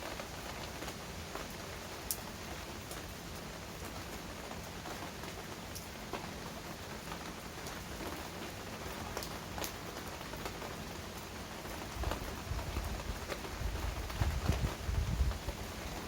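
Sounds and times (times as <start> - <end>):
raindrops ticking close by: 0.0 - 16.0.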